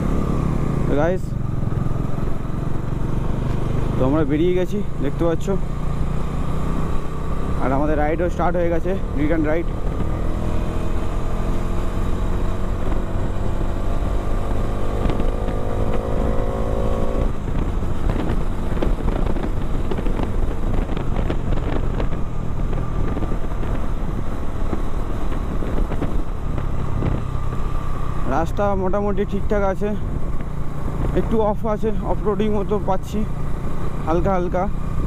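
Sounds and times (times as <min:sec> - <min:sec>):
motorcycle engine accelerating: 0:00.0 - 0:35.0
road and wind noise: 0:00.0 - 0:35.0.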